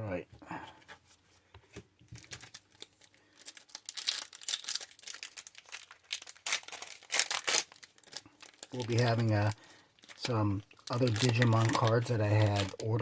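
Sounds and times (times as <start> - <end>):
foil wrapper crinkling and tearing: 2.1 - 13.0.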